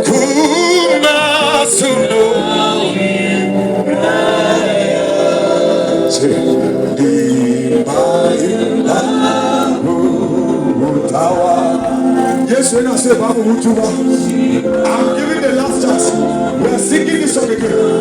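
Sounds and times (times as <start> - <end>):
congregation singing: 0.0 - 18.0.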